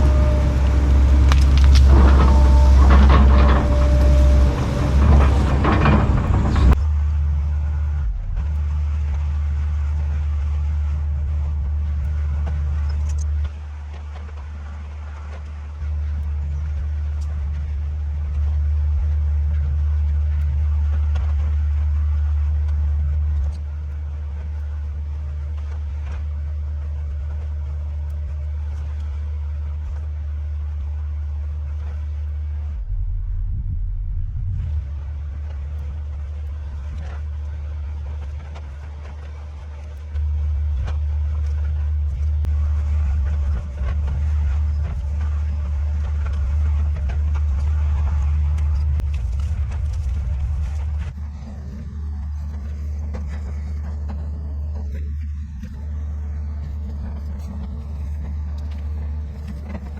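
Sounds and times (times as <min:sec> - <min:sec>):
heavy machinery engine rumble: 0:00.0 - 0:59.9.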